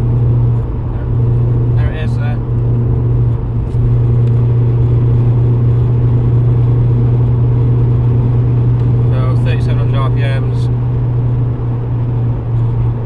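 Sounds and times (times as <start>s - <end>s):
low humming drone in car cabin: 0.0s - 13.0s.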